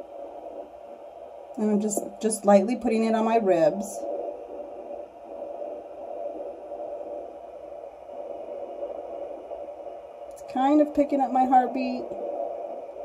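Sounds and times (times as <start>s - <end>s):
doppler whooshing static: 0.0s - 13.0s
faint heartbeat: 0.0s - 13.0s.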